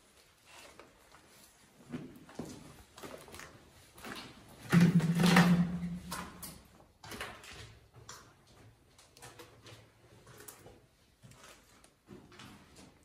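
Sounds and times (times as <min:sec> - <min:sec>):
footsteps on concrete floor: 0:00.0 - 0:13.0.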